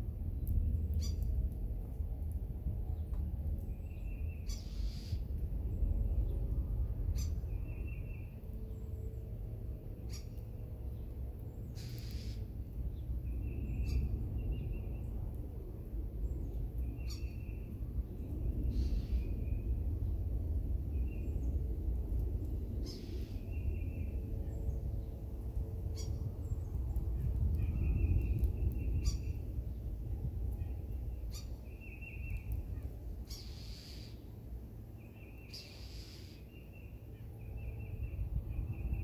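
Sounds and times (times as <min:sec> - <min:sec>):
low rumble: 0:00.0 - 0:33.4, 0:36.9 - 0:39.0
songbirds calling: 0:00.4 - 0:01.4, 0:02.9 - 0:06.4, 0:07.0 - 0:15.4, 0:16.1 - 0:20.2, 0:20.8 - 0:39.0.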